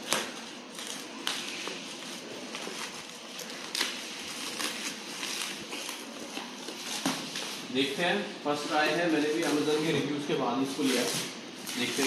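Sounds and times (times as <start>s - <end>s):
bubble wrap rustling and crackling: 0.0s - 12.0s.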